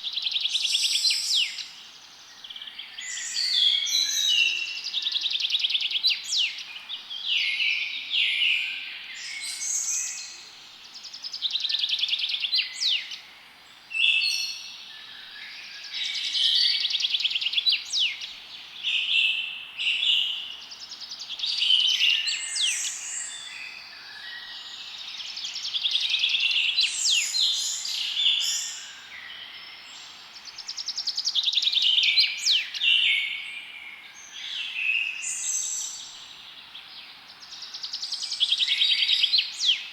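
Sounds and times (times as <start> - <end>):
faint steady hiss: 0.0 - 39.9
songbirds trilling and chirping: 0.0 - 39.9.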